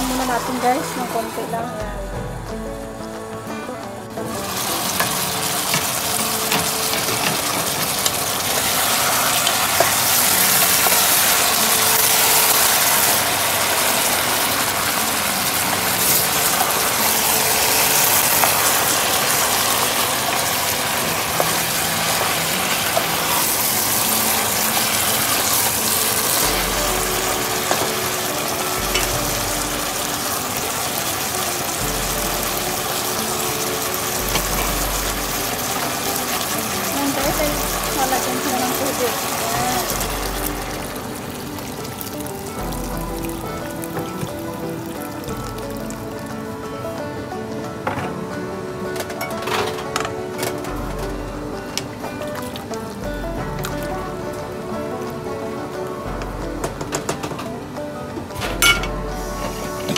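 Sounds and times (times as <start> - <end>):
chicken sizzling in pot: 0.0 - 1.8, 4.1 - 57.6, 58.3 - 59.9.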